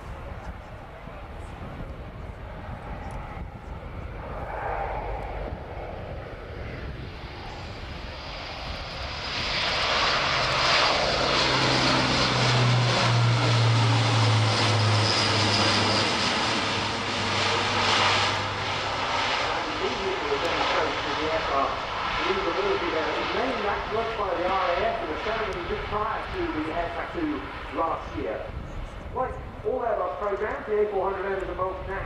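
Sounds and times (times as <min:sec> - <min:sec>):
low propeller drone: 0:00.0 - 0:32.0.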